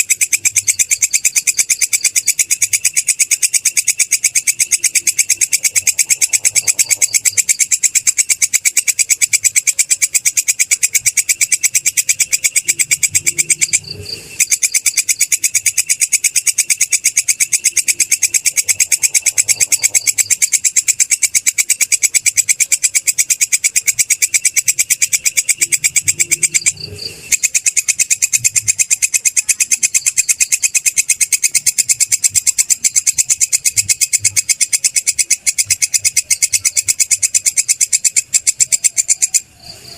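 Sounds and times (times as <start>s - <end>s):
katydid high-pitched trill: 0.0s - 39.9s.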